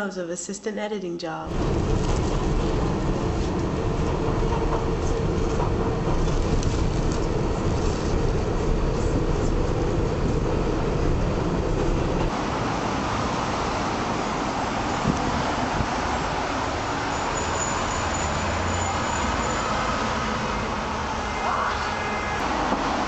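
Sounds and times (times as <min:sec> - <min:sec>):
subway train rumbling and rattling: 0:01.5 - 0:23.0.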